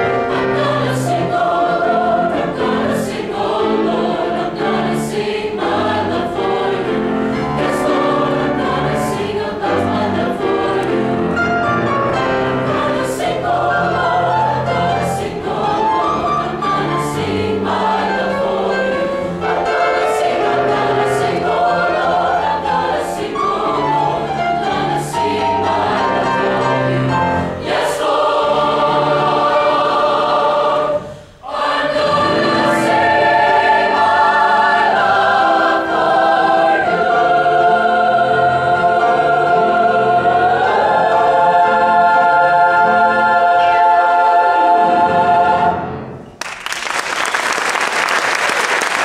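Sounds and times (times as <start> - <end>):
mixed choir singing: 0.0 - 46.3.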